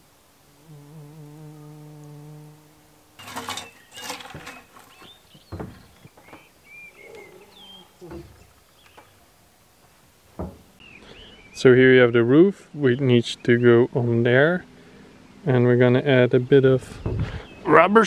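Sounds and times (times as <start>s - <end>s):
birds chirping: 2.1s - 18.0s.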